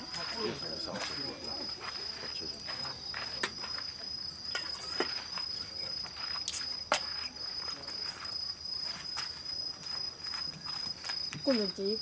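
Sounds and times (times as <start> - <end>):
cricket-like insect trill: 0.0 - 12.0.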